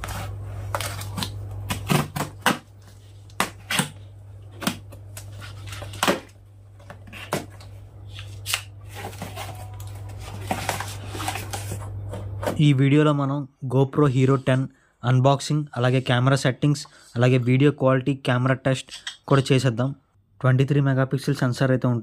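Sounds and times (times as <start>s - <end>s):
steady low hum: 0.0s - 17.7s.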